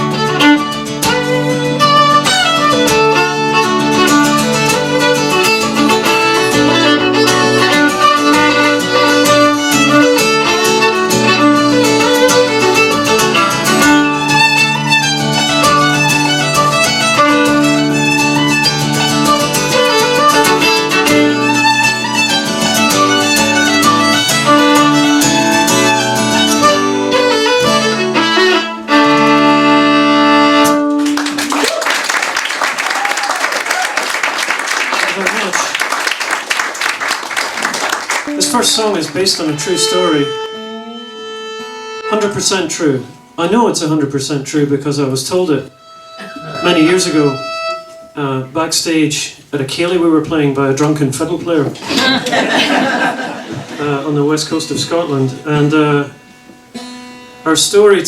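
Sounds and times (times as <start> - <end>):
fiddle dance tune: 0.0 - 31.5, 36.8 - 49.0, 51.2 - 57.7
strummed guitar: 0.0 - 31.5, 38.2 - 58.0.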